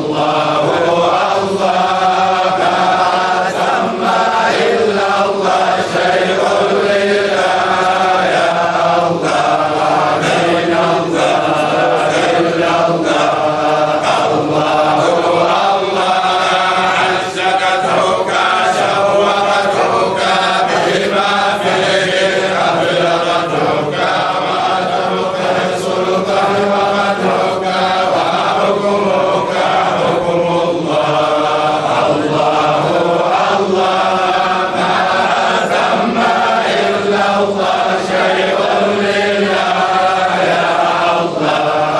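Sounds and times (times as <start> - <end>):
men chanting together: 0.0 - 41.9.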